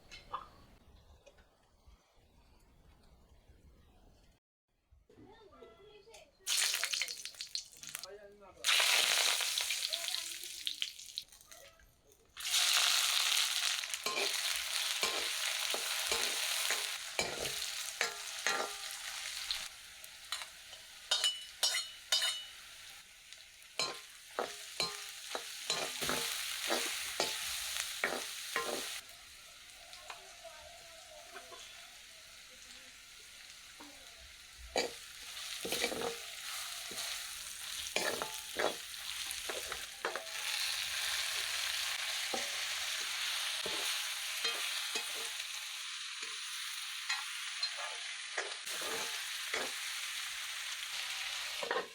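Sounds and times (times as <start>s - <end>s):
chicken frying in hot oil: 6.5s - 11.6s, 12.4s - 51.9s.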